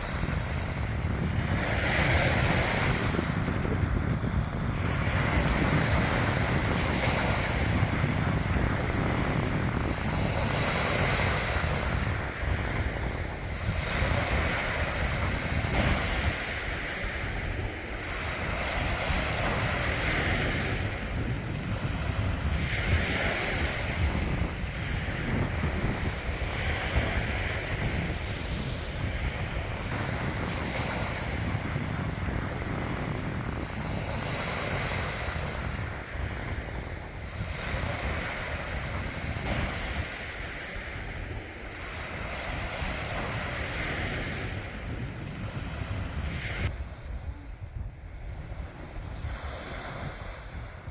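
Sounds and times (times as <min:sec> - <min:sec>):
sea surf breaking on beach: 0:00.0 - 0:50.9
wind buffeting microphone: 0:00.0 - 0:50.9.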